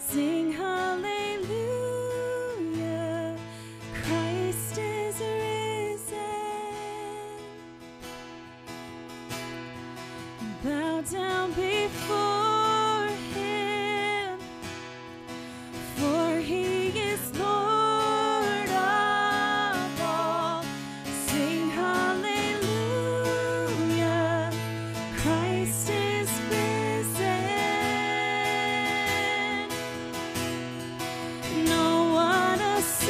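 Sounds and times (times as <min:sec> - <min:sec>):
woman singing with vibrato: 0:00.0 - 0:07.6, 0:10.4 - 0:14.5, 0:15.7 - 0:33.0
strummed acoustic guitar: 0:00.0 - 0:33.0.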